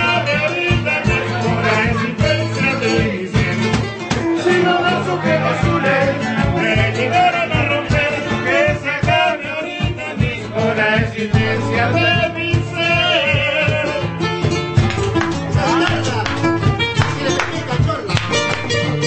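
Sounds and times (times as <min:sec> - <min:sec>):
man singing: 0:00.0 - 0:14.6, 0:15.2 - 0:19.0
strummed acoustic guitar: 0:00.0 - 0:19.0.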